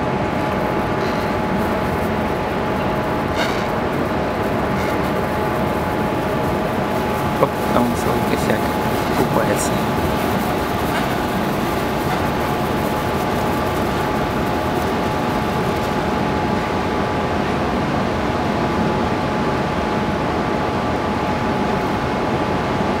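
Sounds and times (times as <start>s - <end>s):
machinery drone: 0.0s - 19.3s.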